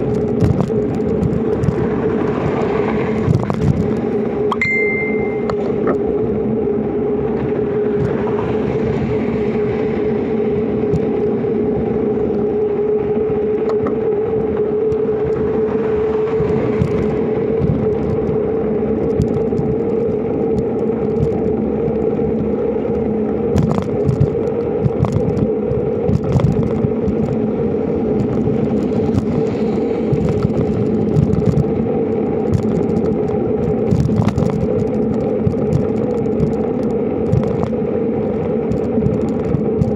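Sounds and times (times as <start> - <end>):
bike tyres rolling on concrete: 0.0 - 4.5, 5.6 - 39.9
steady hum: 0.0 - 39.9
wind on microphone: 0.0 - 39.9.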